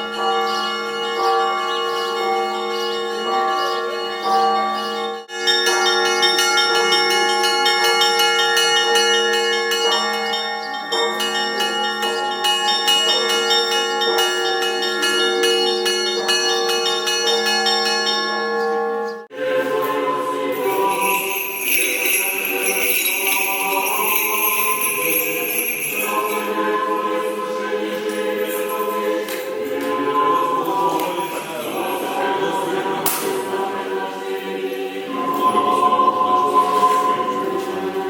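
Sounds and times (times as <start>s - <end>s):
church bells pealing: 0.0s - 38.0s.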